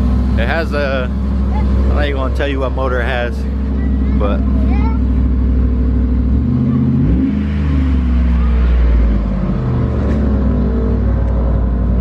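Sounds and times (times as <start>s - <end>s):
pickup engine revving: 0.0s - 12.0s.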